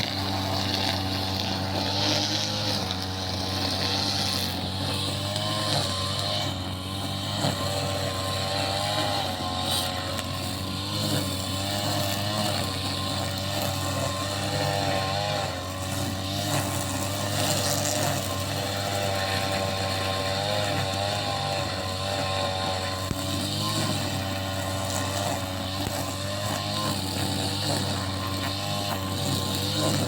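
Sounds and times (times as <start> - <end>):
lawnmower engine running: 0.0 - 30.0.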